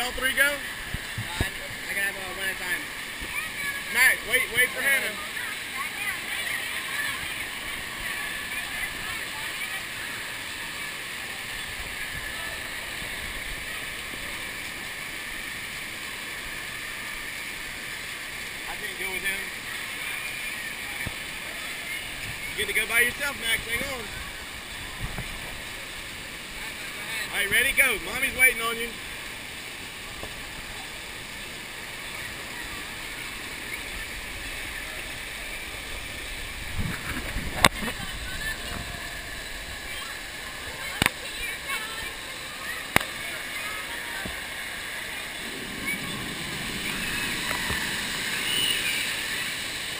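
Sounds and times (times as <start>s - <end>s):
indoor water park noise: 0.0s - 49.9s
water rushing down a slide: 0.0s - 49.9s.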